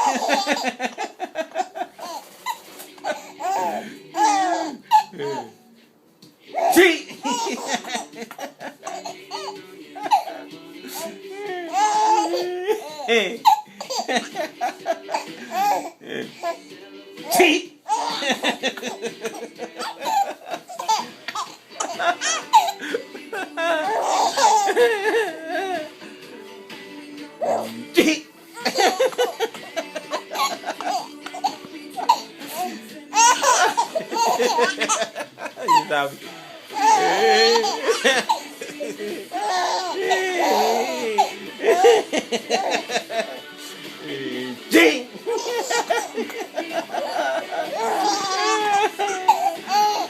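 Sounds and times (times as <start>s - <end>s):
baby laughing: 0.0s - 5.6s, 6.5s - 26.1s, 27.4s - 43.6s, 44.7s - 50.0s.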